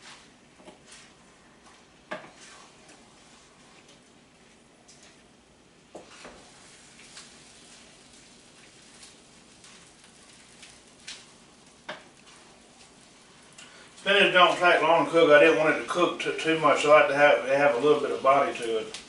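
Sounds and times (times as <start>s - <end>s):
pan simmering with soft crackle: 0.0s - 19.0s.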